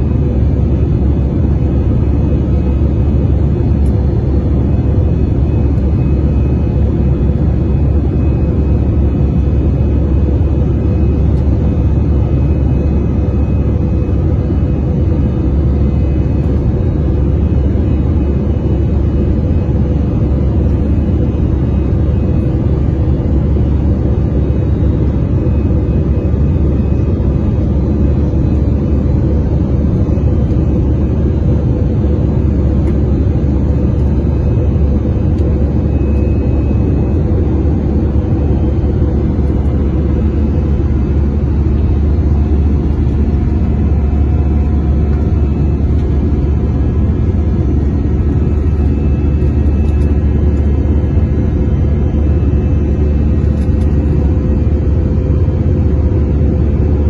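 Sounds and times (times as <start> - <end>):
faint steady hum: 0.0 - 57.0
jet engine rumble in cabin: 0.0 - 57.0.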